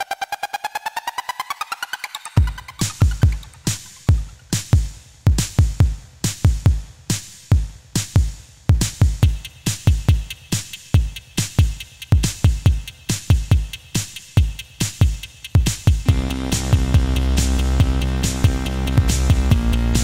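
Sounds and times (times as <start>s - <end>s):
electronic beat music: 0.0s - 20.0s.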